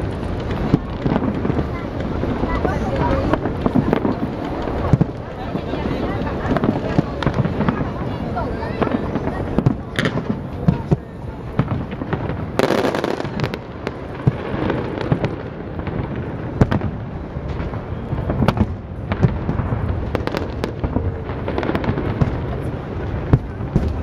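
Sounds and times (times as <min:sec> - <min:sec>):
firework crackle: 0:00.0 - 0:24.0
firework shells bursting: 0:00.0 - 0:24.0.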